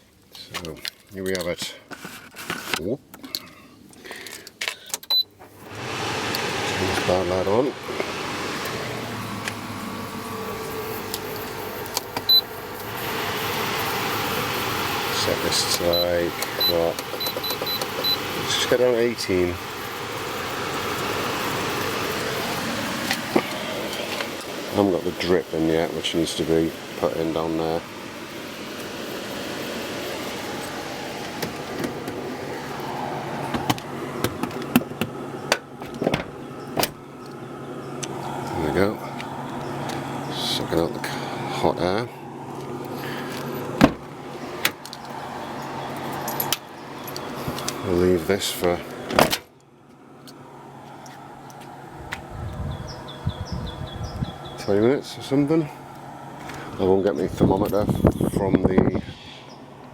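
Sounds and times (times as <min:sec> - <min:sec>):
air conditioner hum: 0:01.2 - 0:59.9
fan rushing: 0:05.1 - 0:59.9.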